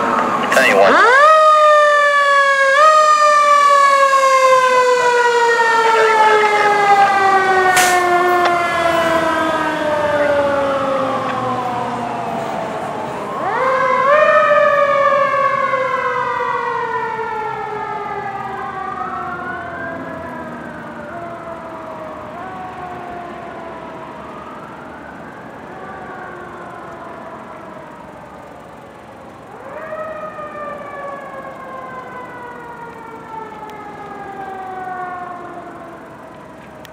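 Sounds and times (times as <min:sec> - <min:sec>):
faint siren rising and falling: 0:00.0 - 0:36.9
mechanical siren wailing: 0:00.0 - 0:36.9.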